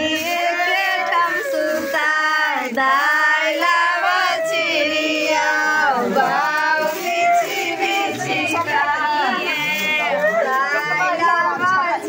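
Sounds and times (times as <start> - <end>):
women singing folk song: 0.0 - 12.0.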